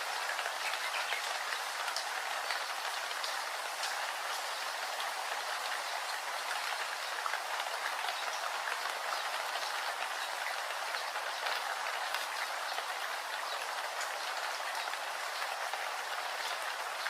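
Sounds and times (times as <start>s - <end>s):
rain falling: 0.0s - 17.0s
raindrop ticks: 0.3s - 15.0s.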